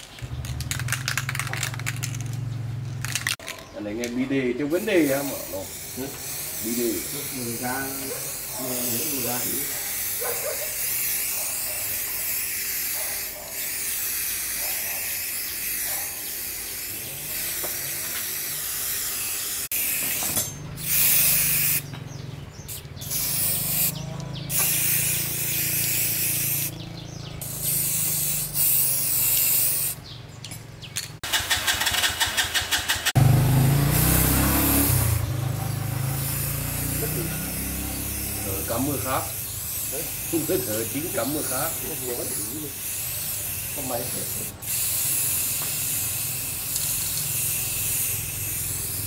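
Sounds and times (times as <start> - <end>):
hissing spray bursts: 4.6 - 21.9, 22.7 - 26.8, 27.4 - 30.0, 31.3 - 49.0.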